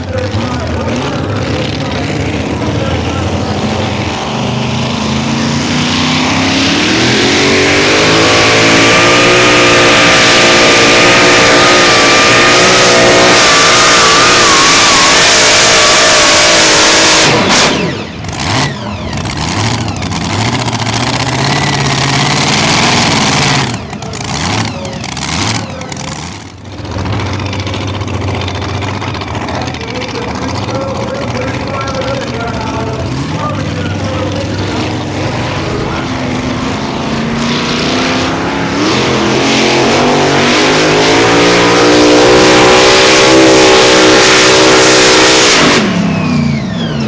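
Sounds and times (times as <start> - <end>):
engine revs: 0.0 - 47.0
truck engine at full throttle: 0.0 - 47.0.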